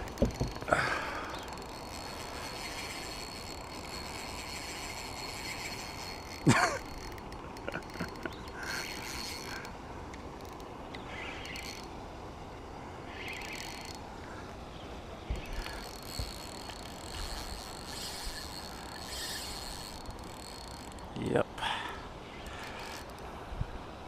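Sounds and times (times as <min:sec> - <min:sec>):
fishing reel winding and clicking: 0:00.0 - 0:12.0, 0:13.1 - 0:14.0, 0:15.4 - 0:21.1, 0:22.4 - 0:23.2.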